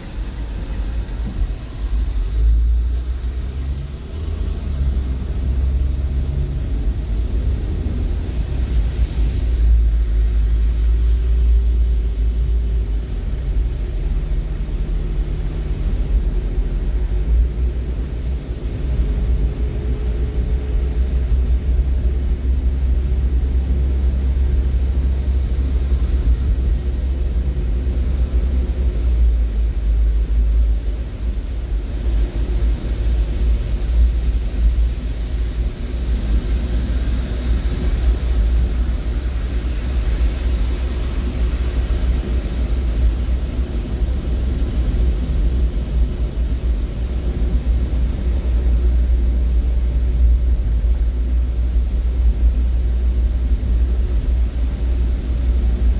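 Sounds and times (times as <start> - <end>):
vehicle rumbling in motion: 0.0 - 55.9.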